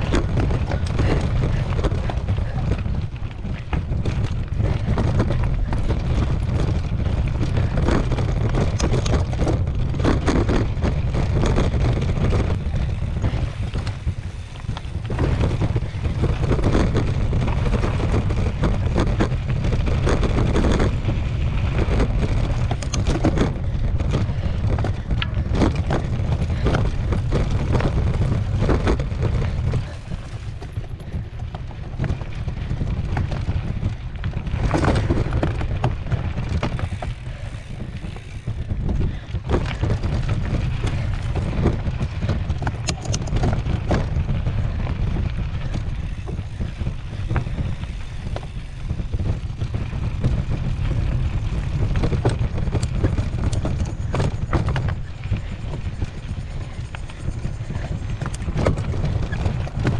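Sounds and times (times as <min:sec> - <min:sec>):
bike clicks and rattles: 0:00.0 - 0:59.9
wind buffeting microphone: 0:00.0 - 0:59.9.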